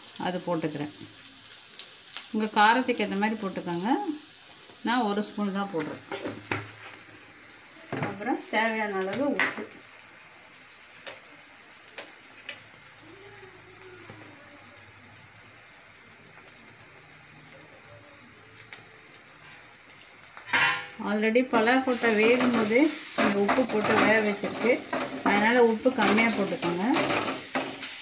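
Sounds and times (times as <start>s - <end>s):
masala sizzling in oil: 0.0s - 28.0s.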